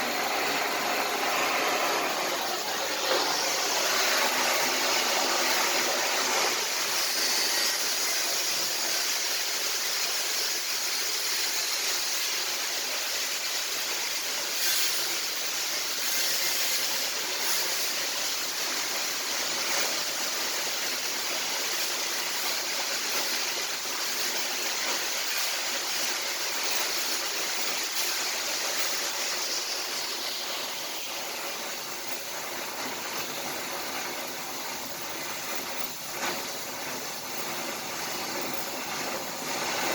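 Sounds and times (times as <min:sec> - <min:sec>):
welding arc crackling hiss: 0:00.0 - 0:39.9.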